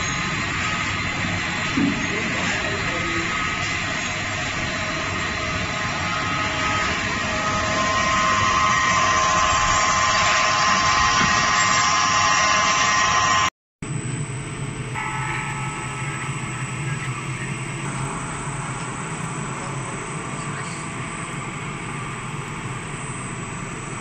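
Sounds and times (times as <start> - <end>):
machine noise with whine: 0.0 - 24.0.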